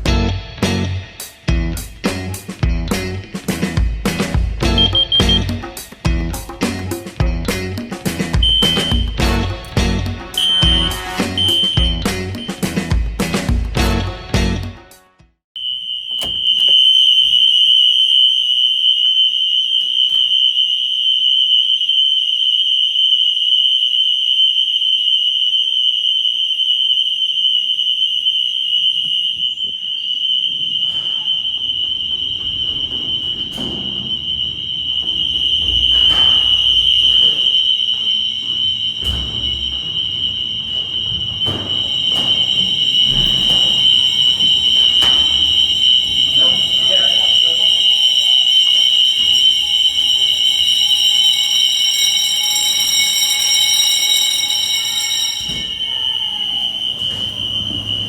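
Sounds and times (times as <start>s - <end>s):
fire alarm tone: 0.0s - 14.8s, 15.6s - 58.0s.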